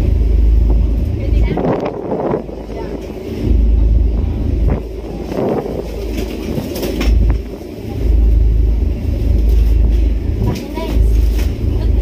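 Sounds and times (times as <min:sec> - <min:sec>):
boat low rumble: 0:00.0 - 0:12.0
wind buffeting microphone: 0:00.0 - 0:12.0.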